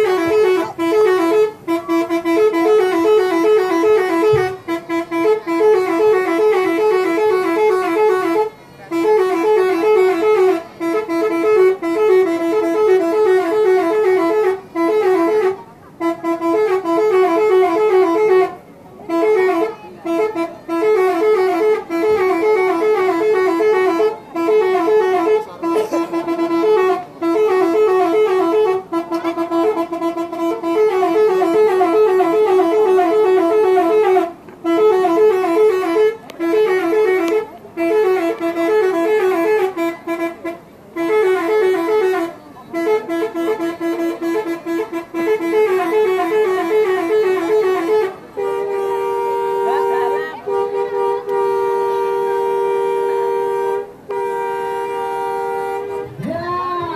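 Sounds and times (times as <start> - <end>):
multi-tone bus horn tune: 0.0 - 56.9.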